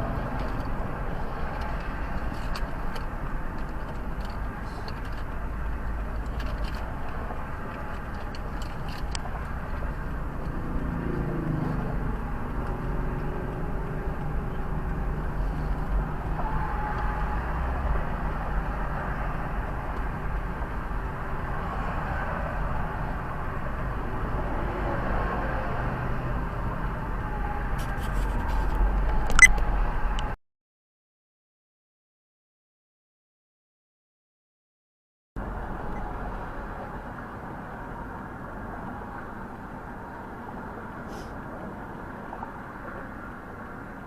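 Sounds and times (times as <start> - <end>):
traffic rumble: 0.0 - 30.4, 35.4 - 44.0.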